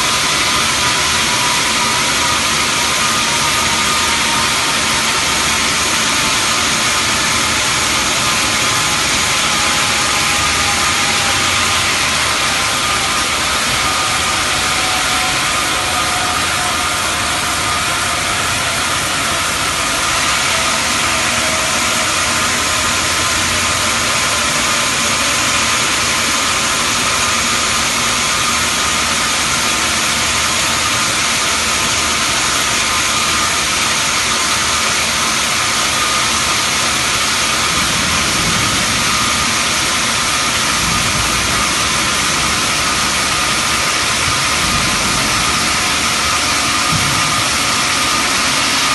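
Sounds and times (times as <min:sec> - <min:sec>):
bandsaw cutting stone: 0:00.0 - 0:48.9.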